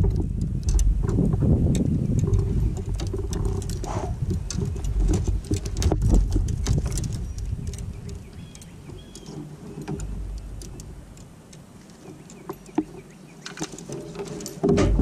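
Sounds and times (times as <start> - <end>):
wind rumble on microphone: 0.0 - 13.2, 13.8 - 15.0
fishing gear clicking and knocking: 0.0 - 15.0.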